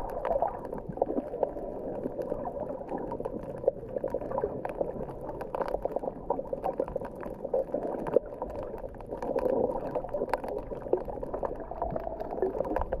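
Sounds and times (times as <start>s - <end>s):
short clicks and crackles: 0.0s - 13.0s
underwater water noise: 0.0s - 13.0s.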